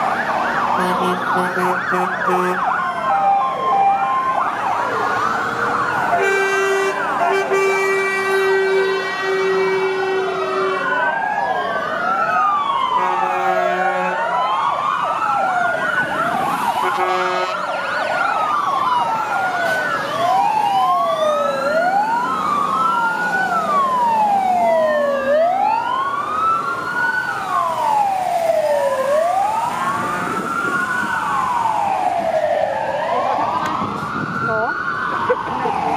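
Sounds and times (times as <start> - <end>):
fire engine sirens wailing: 0.0 - 35.9.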